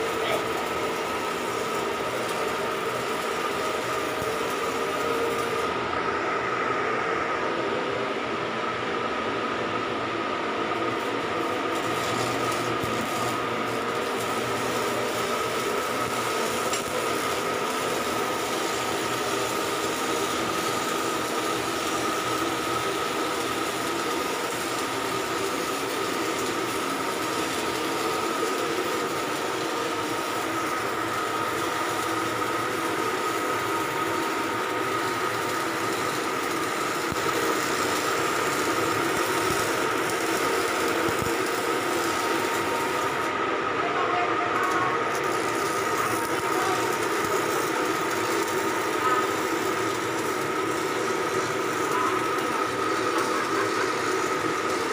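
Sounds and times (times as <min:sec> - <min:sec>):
constant high whine: 0:00.0 - 0:54.9
dense machinery noise: 0:00.0 - 0:54.9.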